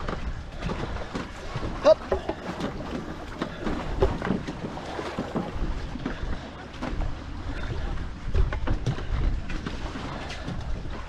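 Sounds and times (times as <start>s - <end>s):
canoe paddles splashing: 0.0s - 11.0s
wind rumble on microphone: 0.0s - 11.0s.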